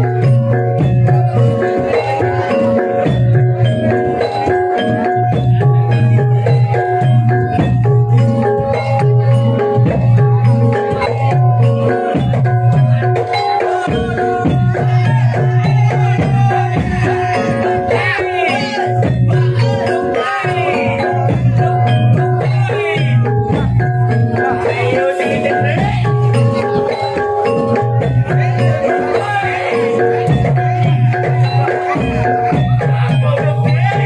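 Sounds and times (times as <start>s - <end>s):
metallophones playing melody: 0.0s - 34.0s.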